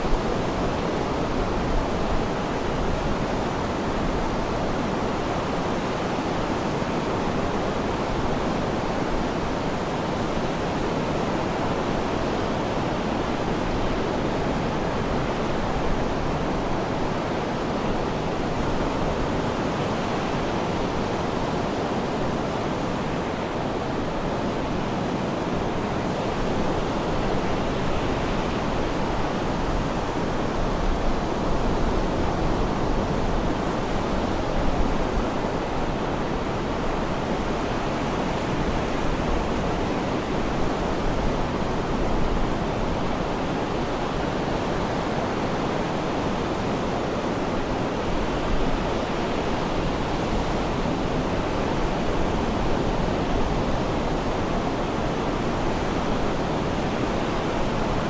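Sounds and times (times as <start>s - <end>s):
sea surf washing: 0.0s - 58.0s.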